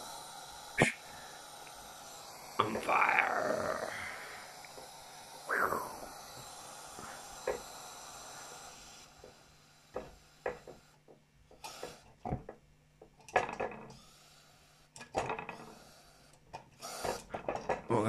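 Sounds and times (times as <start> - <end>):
lantern burner hissing: 0.0 - 12.2, 13.4 - 18.0.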